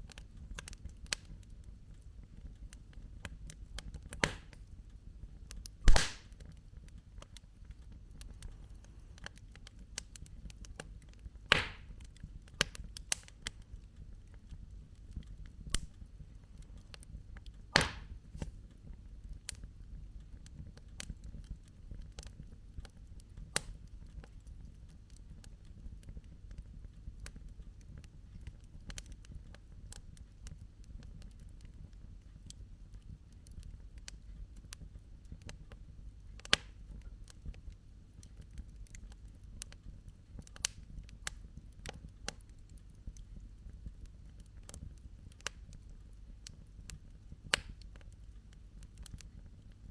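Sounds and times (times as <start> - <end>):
campfire crackling: 0.0 - 49.9
fire snaps: 0.0 - 49.9.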